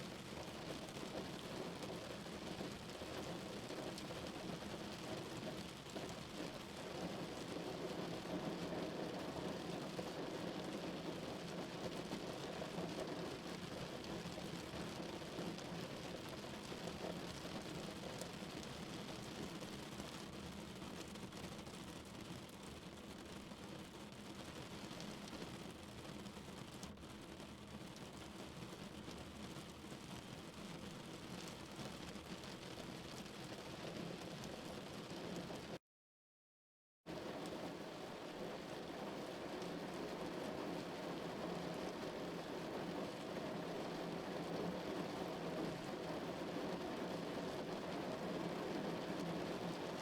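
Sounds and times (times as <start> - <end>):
rain drumming on car roof: 0.1 - 35.7, 37.1 - 50.0.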